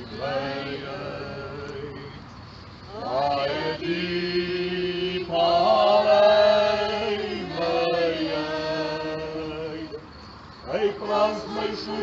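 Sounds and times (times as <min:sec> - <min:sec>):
crowd singing a hymn: 0:00.0 - 0:12.0.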